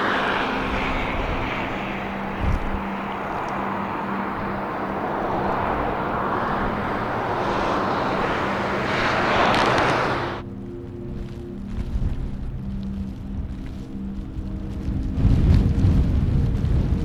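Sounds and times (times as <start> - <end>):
strong storm wind rushing: 0.0 - 17.0.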